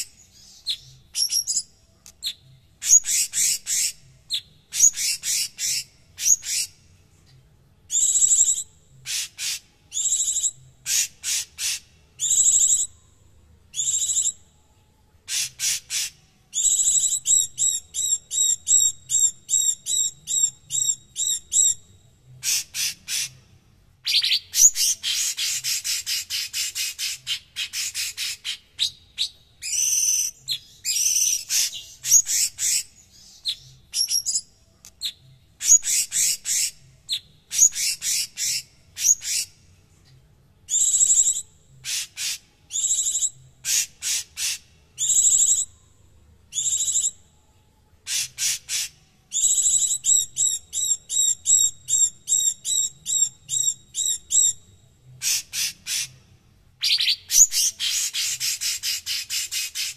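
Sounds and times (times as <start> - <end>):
leafbird singing harsh calls: 0.0 - 6.8, 7.9 - 13.0, 13.7 - 14.4, 15.2 - 23.4, 24.0 - 39.6, 40.7 - 45.8, 46.5 - 47.2, 48.1 - 54.6, 55.2 - 56.2, 56.8 - 59.9.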